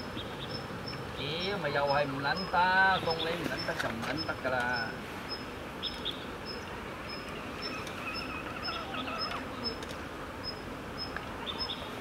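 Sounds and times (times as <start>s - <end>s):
insect chirping: 0.0s - 12.0s
steady background hiss: 0.0s - 12.0s.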